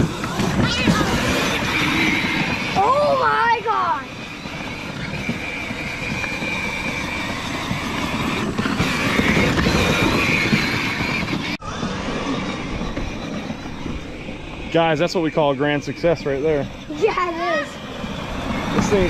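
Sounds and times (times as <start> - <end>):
electric motors whining: 0.0 - 19.0
tires rumbling: 0.0 - 19.0.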